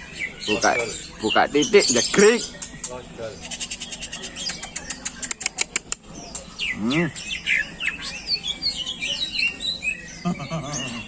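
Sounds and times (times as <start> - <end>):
bird chirping and trilling: 0.0 - 11.0.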